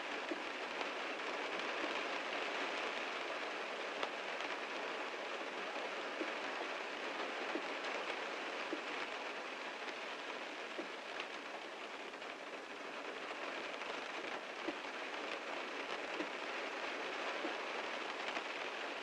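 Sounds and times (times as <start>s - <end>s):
heavy rain on a car: 0.0s - 19.0s.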